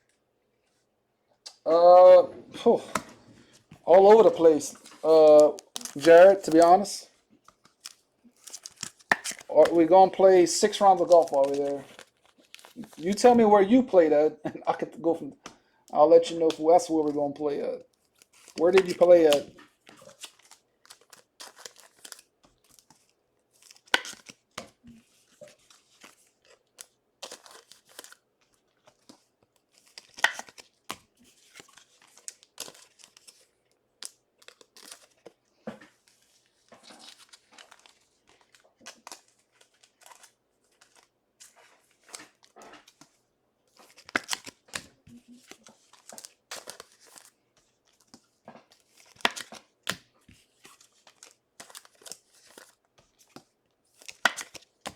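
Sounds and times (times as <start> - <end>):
card pack wrappers crinkling: 1.5 - 14.1, 16.0 - 54.9.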